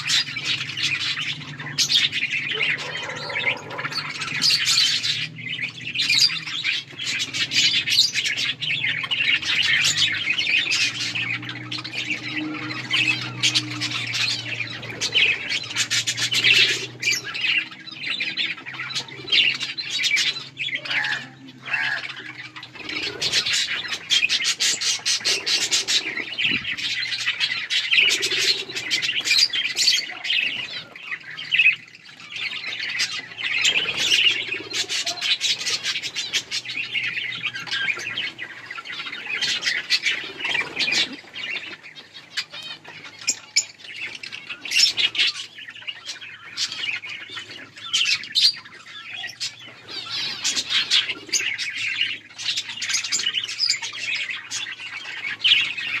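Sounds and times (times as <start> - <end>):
budgerigars chirping and chattering: 0.0 - 56.0.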